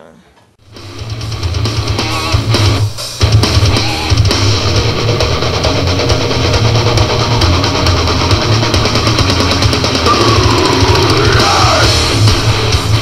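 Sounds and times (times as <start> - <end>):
rock music with electric guitar: 0.6 - 13.0.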